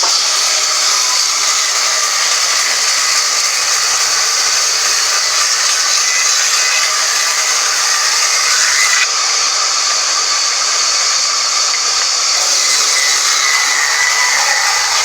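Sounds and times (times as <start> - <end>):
band saw high-pitched whir: 0.0 - 15.0.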